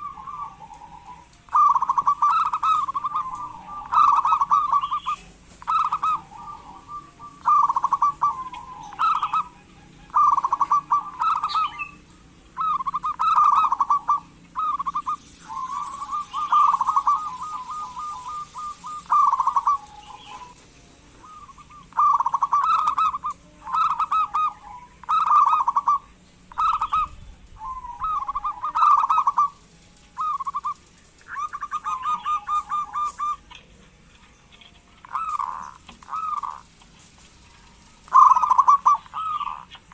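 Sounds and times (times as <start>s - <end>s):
dove cooing trills: 0.0s - 39.9s.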